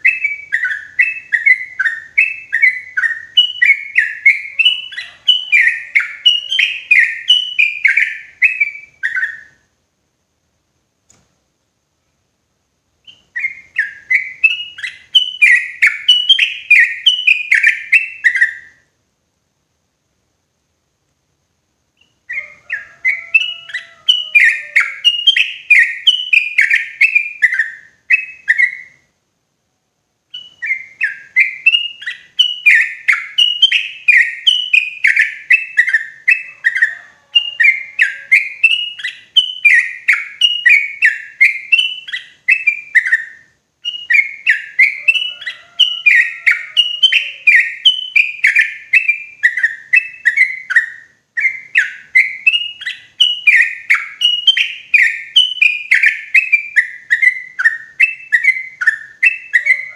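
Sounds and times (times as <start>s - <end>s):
bird chattering song: 0.0s - 9.6s, 13.0s - 18.9s, 22.0s - 29.1s, 30.3s - 59.9s.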